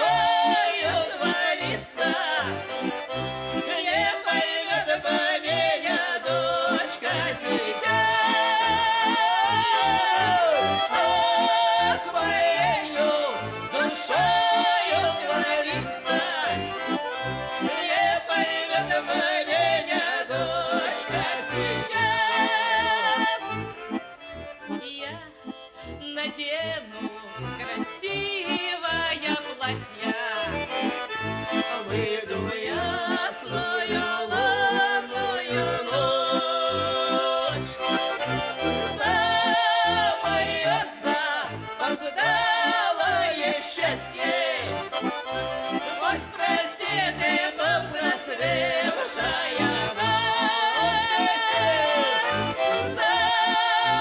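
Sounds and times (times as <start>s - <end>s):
accordion folk tune: 0.0s - 54.0s.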